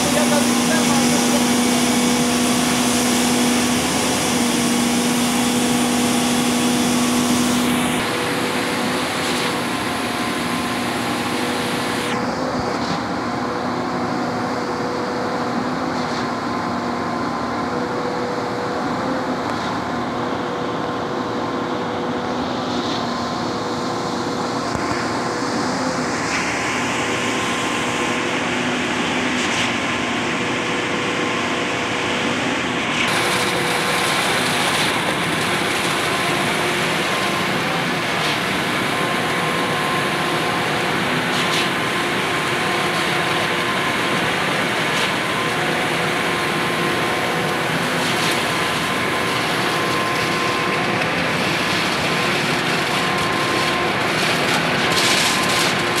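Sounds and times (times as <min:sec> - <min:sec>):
concrete pump truck humming: 0:00.0 - 0:56.0.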